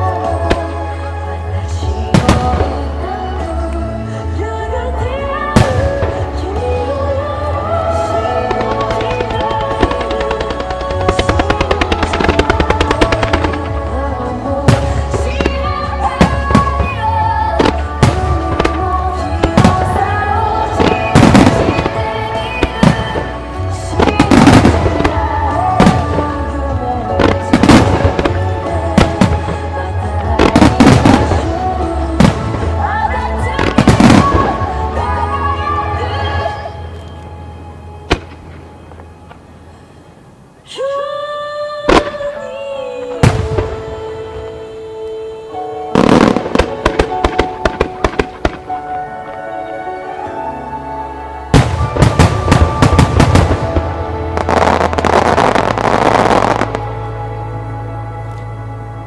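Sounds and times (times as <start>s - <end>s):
music: 0.0s - 59.0s
fireworks bursting: 5.6s - 41.0s, 41.8s - 44.6s, 45.9s - 49.5s, 51.5s - 57.2s.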